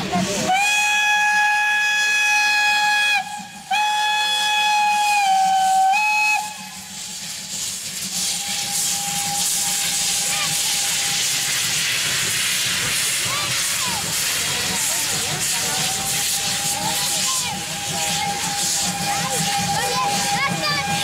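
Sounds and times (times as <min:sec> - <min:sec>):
steam hissing: 0:00.0 - 0:21.0
steam locomotive whistle blowing: 0:00.4 - 0:11.8, 0:12.7 - 0:21.0.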